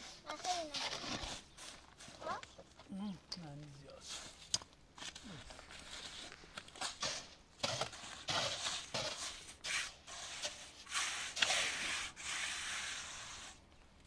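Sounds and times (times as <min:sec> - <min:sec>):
soil scraping: 0:00.0 - 0:13.8.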